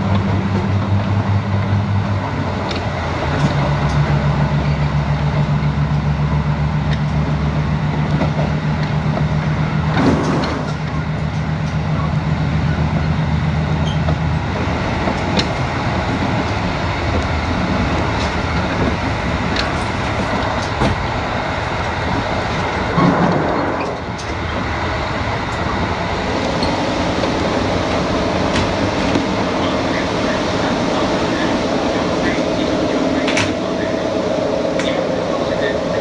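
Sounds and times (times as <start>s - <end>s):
diesel engine hum: 0.0s - 36.0s
rail clicks: 0.0s - 36.0s
train wheels rumbling on rail: 0.0s - 36.0s.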